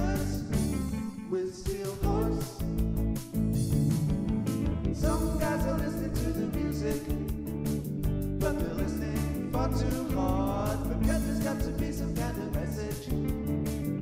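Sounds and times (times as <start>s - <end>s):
song with singing over a band: 0.0s - 7.8s, 8.4s - 13.5s.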